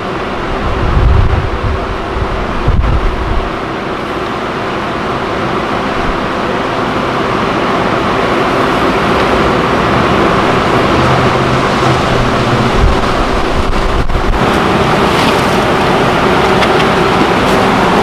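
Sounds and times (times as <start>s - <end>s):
bees buzzing: 3.3s - 18.0s.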